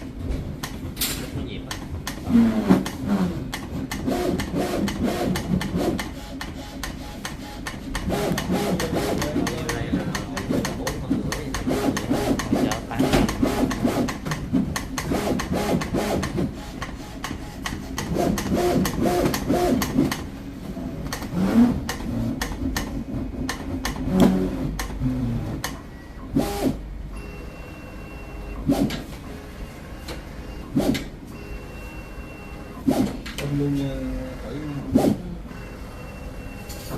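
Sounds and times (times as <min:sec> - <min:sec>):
plotter carriage motors: 0:00.0 - 0:36.9.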